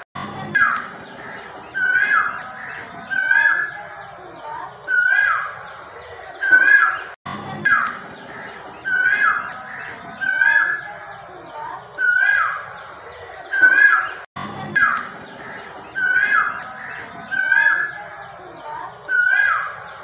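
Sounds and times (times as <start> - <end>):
bird calling: 0.0 - 20.0.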